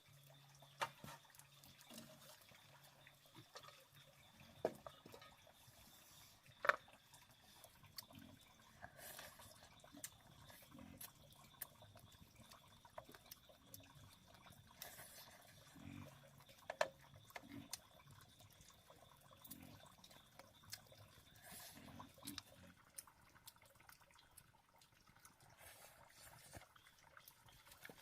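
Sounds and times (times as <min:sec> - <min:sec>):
water splashing and dripping: 0:00.0 - 0:28.0.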